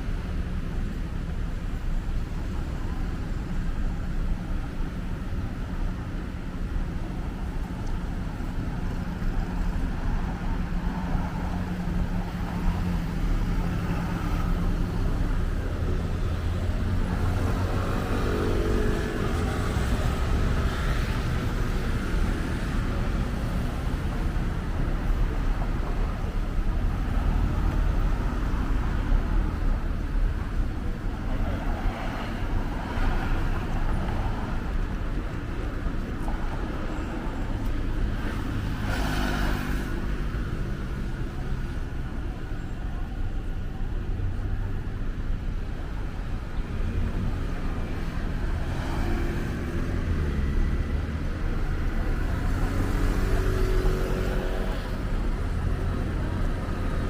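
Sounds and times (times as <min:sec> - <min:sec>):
cars passing on a street: 0:00.0 - 0:57.0.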